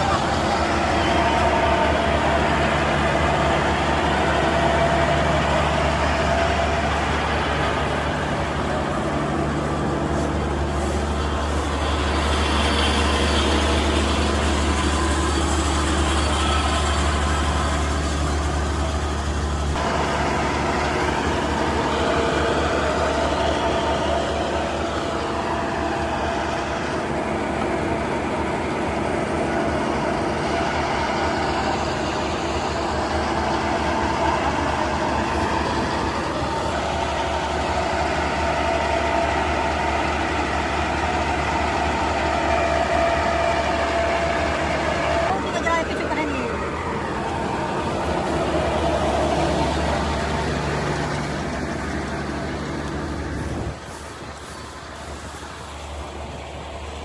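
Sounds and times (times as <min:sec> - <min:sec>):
heavy diesel farm machinery engines: 0:00.0 - 0:57.0.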